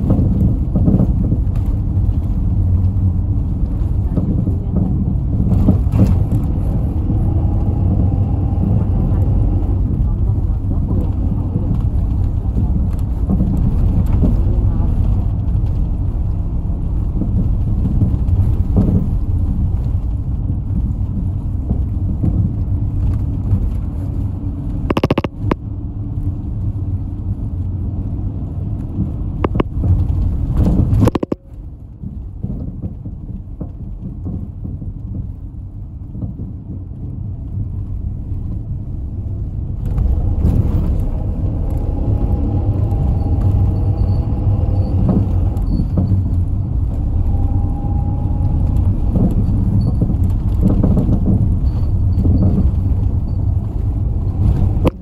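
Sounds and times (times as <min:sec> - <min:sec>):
knocks and rattles: 0:00.0 - 0:25.6, 0:28.6 - 0:55.0
bus engine and road rumble: 0:00.0 - 0:55.0
engine whine: 0:00.0 - 0:55.0.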